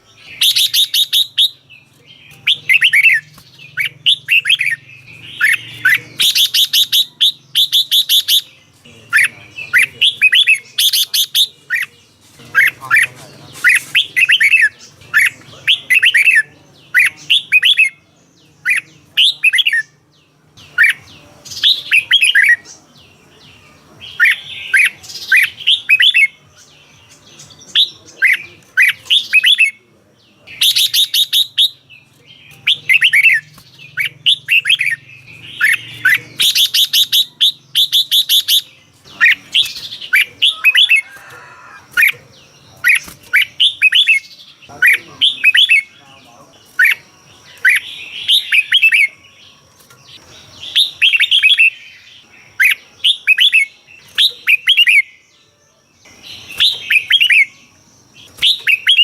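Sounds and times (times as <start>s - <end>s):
bird whistled song: 0.0s - 59.0s.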